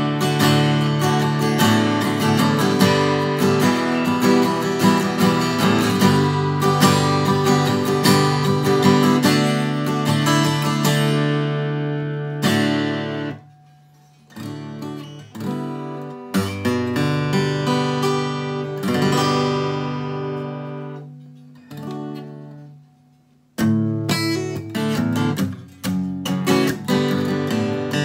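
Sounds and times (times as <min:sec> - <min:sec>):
acoustic guitar chords ringing: 0:00.0 - 0:28.0.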